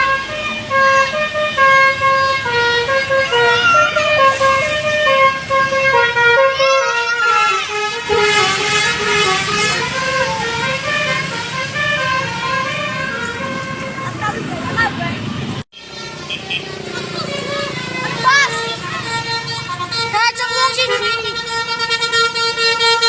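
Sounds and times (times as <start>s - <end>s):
musical air horn playing tune: 0.0s - 14.2s, 15.8s - 23.0s.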